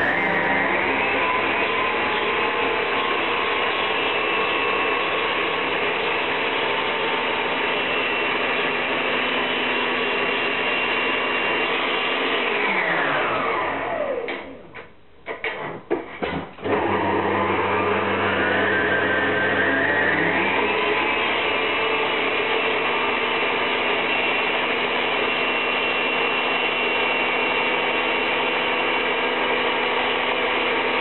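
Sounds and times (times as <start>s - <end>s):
stand mixer motor whining: 0.0s - 14.8s, 16.3s - 31.0s.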